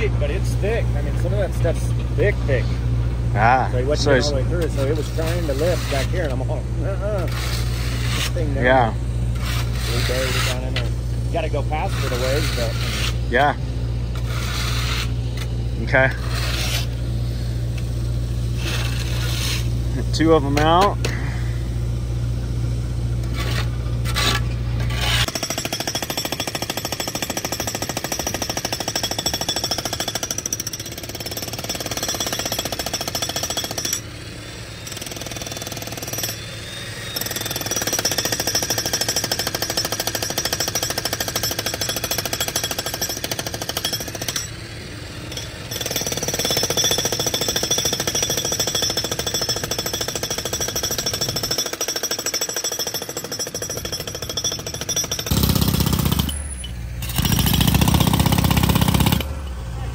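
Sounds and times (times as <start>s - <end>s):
jackhammer breaking asphalt: 3.4s - 21.4s, 23.2s - 59.5s.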